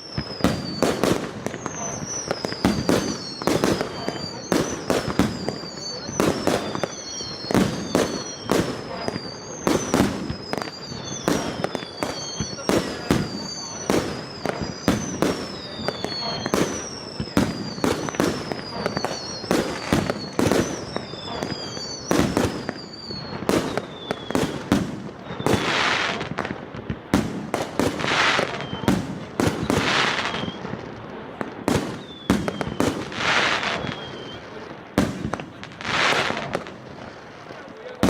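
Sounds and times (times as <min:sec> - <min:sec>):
fireworks hissing: 0:00.0 - 0:38.0
fireworks shots and bursts: 0:00.0 - 0:38.0
fireworks whistling: 0:00.0 - 0:38.0.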